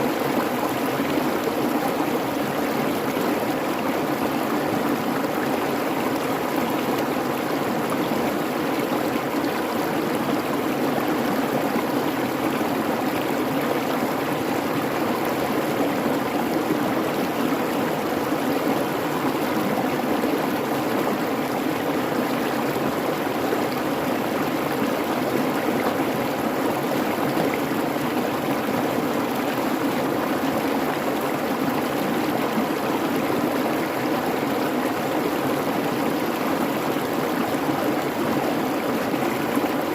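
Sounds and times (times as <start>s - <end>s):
creek babbling over rocks: 0.0s - 39.9s.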